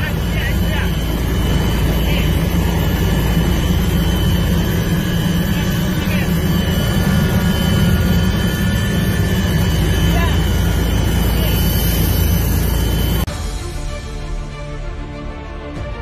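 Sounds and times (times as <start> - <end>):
constant high whine: 0.0 - 15.0
helicopter engine and rotor drone: 0.0 - 16.0.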